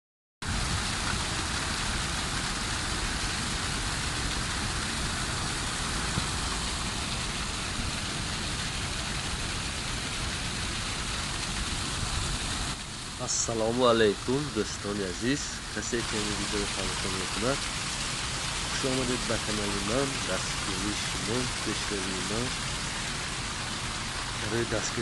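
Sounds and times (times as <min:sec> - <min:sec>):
waterfall splashing onto rocks: 0:00.4 - 0:25.0.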